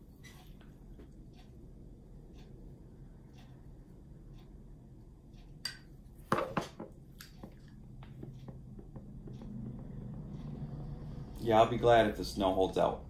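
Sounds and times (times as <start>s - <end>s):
faint ticking: 0.0s - 6.2s, 6.9s - 13.0s.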